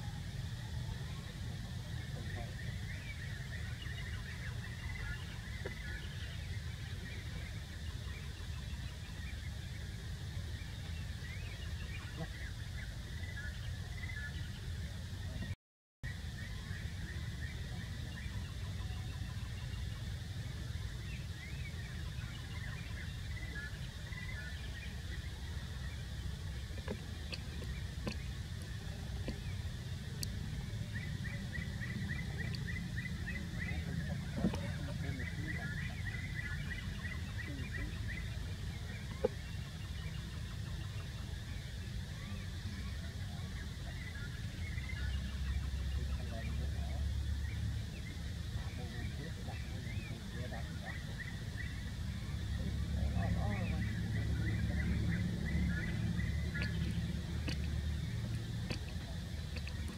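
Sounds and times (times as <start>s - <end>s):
faint bird calls: 0.0s - 59.9s.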